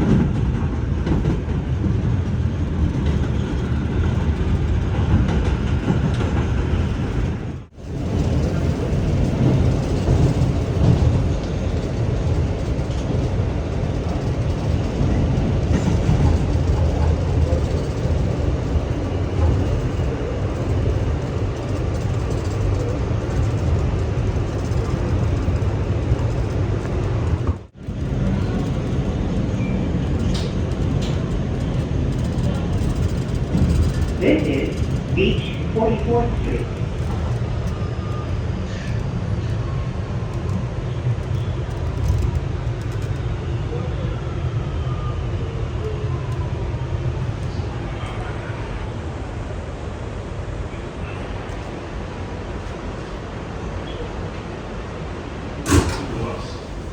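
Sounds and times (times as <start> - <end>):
subway train rumbling on rails: 0.0 - 56.9.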